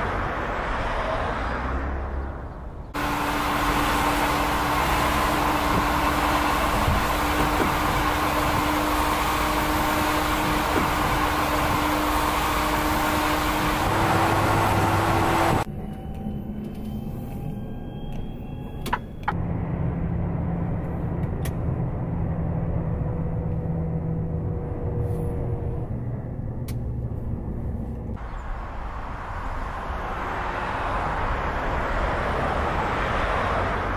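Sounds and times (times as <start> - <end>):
tyre and road noise: 0.0 - 33.9.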